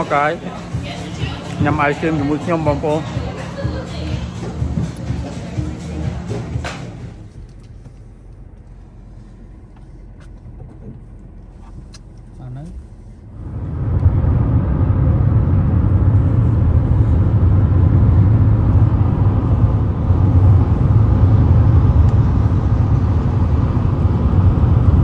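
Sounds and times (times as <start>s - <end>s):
road and tyre noise in car: 0.0s - 25.0s.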